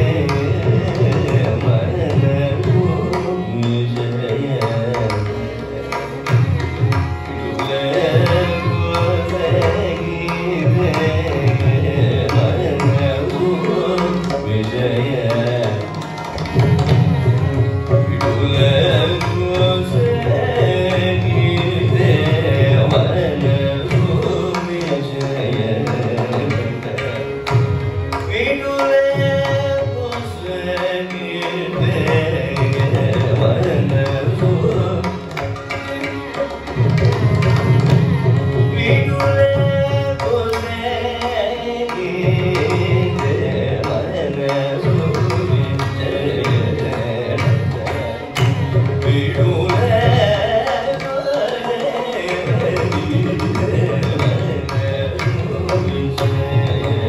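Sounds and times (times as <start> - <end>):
man singing classical song: 0.0 - 57.0.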